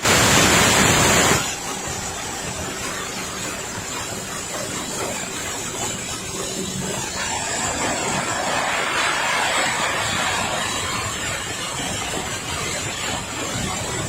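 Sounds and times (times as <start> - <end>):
corn-cracking machine running: 0.0 - 14.0.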